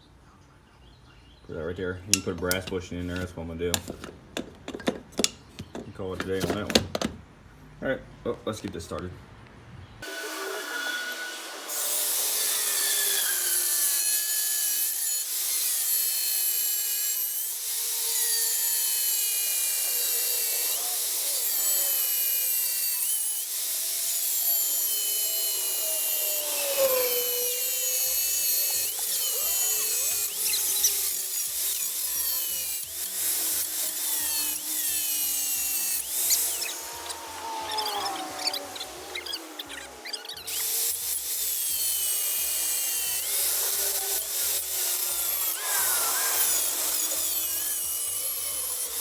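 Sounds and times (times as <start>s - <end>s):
power tool cutting steel: 2.1s - 6.6s, 10.0s - 49.0s.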